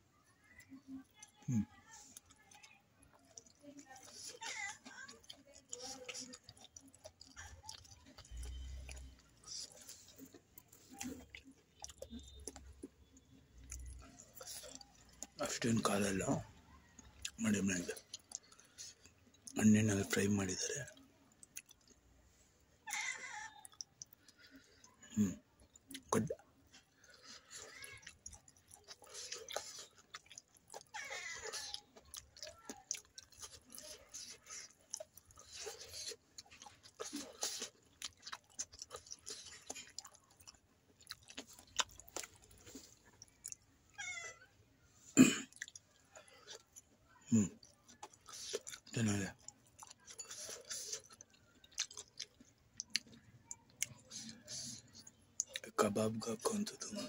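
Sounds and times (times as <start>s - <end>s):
chewing crunchy food: 0.0s - 57.0s.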